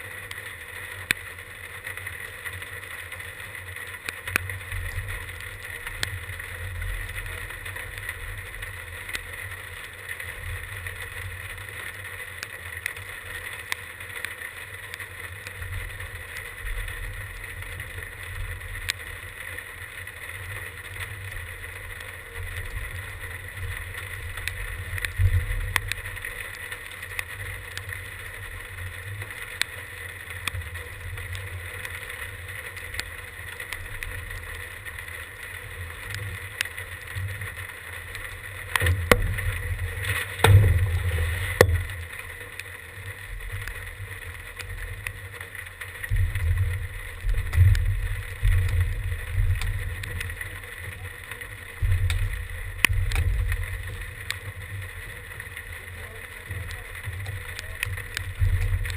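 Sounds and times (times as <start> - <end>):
faint ticks: 0.0 - 58.9.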